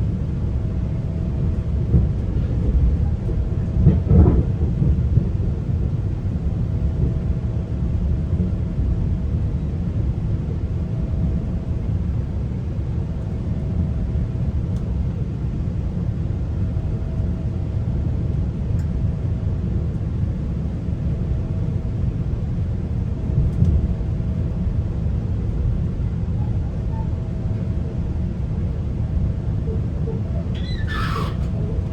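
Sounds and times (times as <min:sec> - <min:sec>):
train rumbling inside coach: 0:00.0 - 0:31.9.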